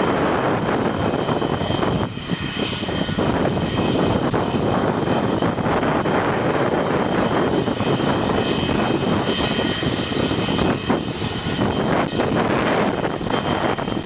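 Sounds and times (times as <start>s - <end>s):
high engine whine: 0.0s - 14.0s
jet engine roar: 0.0s - 14.0s.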